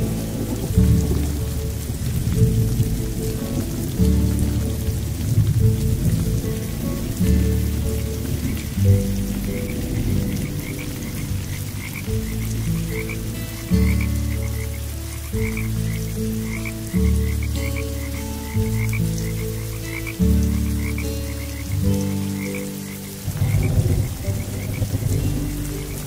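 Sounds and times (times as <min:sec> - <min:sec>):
frogs croaking: 0:00.0 - 0:26.0
rain patter: 0:00.0 - 0:26.0
slow low music chords: 0:00.0 - 0:26.0.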